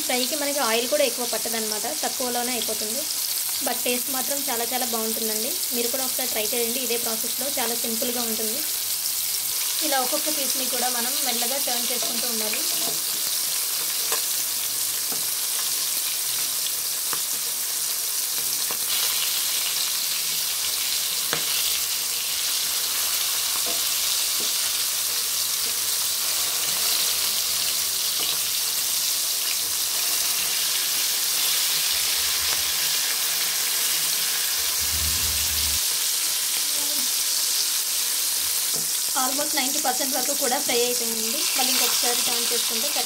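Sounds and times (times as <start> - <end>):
fish sizzling in hot oil: 0.0 - 43.0.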